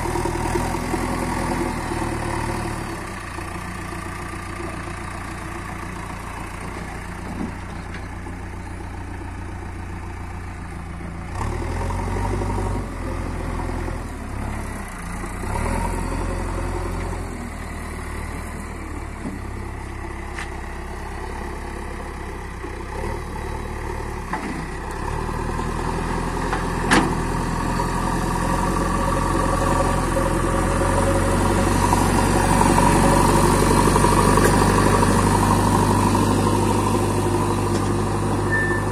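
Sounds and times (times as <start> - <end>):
diesel engine running: 0.0 - 38.9
loader bucket pushing soil: 0.0 - 38.9.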